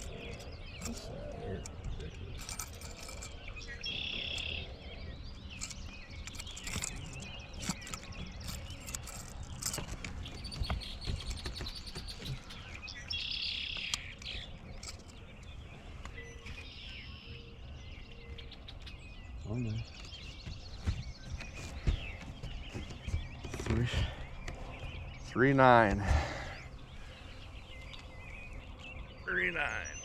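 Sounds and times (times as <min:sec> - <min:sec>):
bird chirps and clicks: 0:00.0 - 0:30.0.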